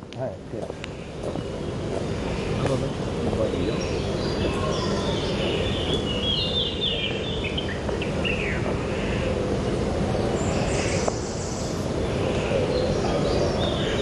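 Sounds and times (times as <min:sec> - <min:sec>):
birds chirping: 0:00.0 - 0:14.0
outdoor background rumble: 0:00.0 - 0:14.0.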